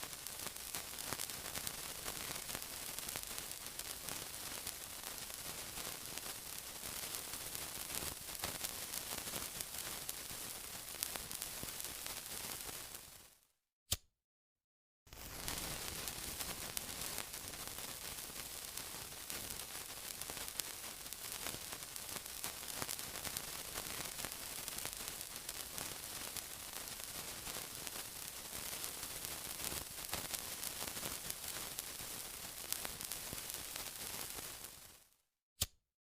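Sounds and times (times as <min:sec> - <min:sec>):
sizzling hiss with crackles: 0:00.0 - 0:13.4, 0:15.1 - 0:35.2.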